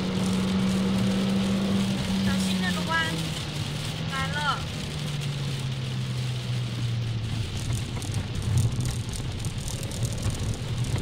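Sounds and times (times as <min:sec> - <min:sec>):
car engine: 0:00.0 - 0:11.0
tyre noise on wet track: 0:00.0 - 0:11.0.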